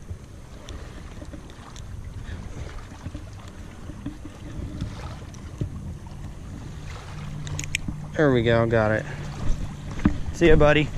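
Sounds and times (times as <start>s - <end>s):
low wind rumble on microphone: 0.0s - 10.9s.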